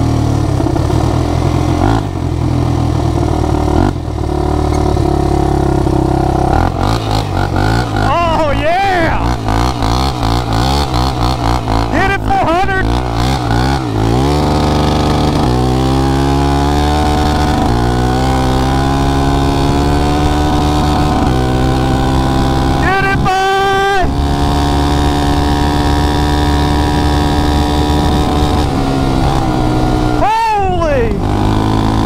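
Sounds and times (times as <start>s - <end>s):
atv engine accelerating: 0.0s - 32.0s.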